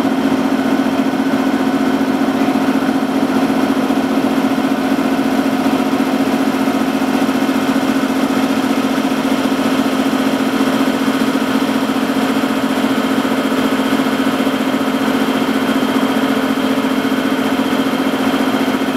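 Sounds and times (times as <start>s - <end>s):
diesel locomotive engine running: 0.0s - 18.9s.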